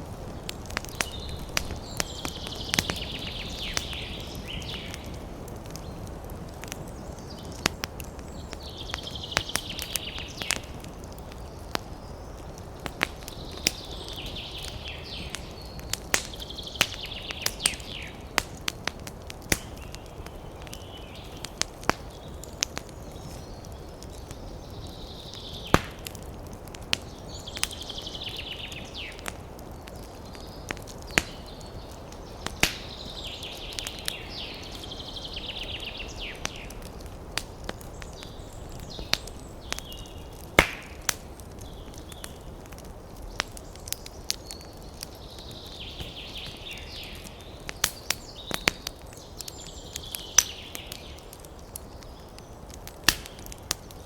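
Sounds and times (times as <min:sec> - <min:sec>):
soft hissing of burning logs: 0:00.0 - 0:54.0
wood fire crackling: 0:00.0 - 0:54.0.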